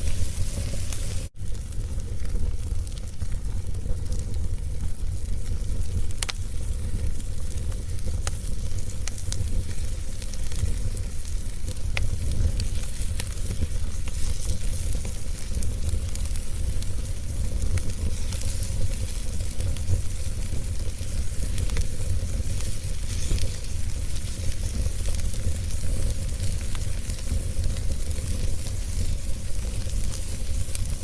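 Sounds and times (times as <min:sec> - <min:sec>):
fire popping: 0:00.0 - 0:31.0
wood fire crackling: 0:00.0 - 0:31.0.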